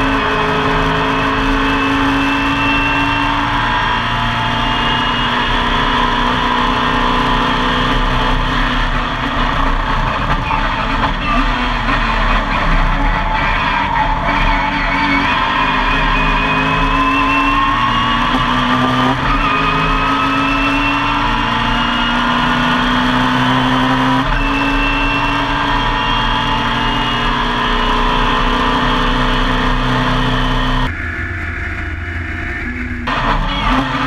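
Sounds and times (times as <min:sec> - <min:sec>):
race car engine pulling hard: 0:00.0 - 0:30.9, 0:32.8 - 0:34.0.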